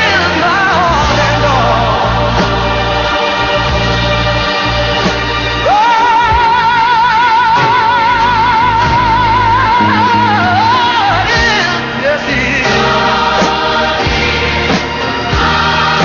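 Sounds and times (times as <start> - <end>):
gospel accompaniment with bass: 0.0 - 16.0.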